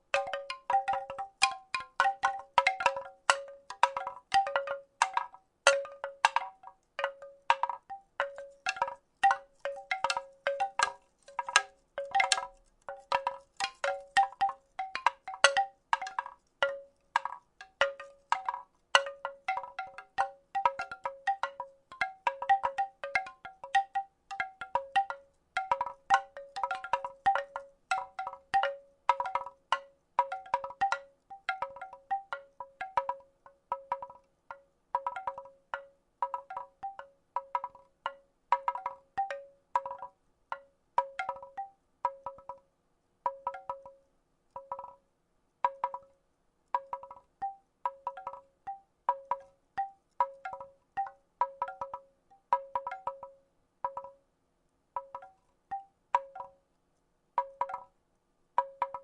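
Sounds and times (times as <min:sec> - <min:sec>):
wooden rattle shaken: 0:00.0 - 0:34.3, 0:35.0 - 0:42.6, 0:46.8 - 0:53.3.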